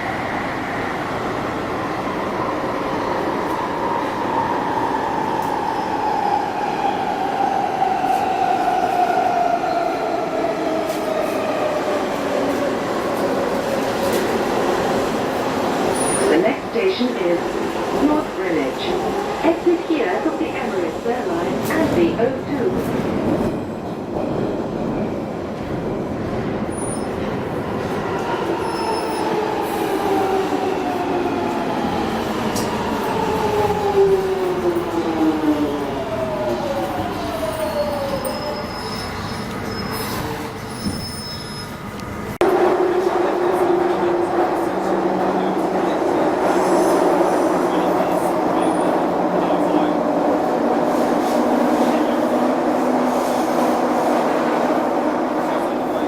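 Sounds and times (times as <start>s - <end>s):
train running inside carriage: 0.0s - 56.0s.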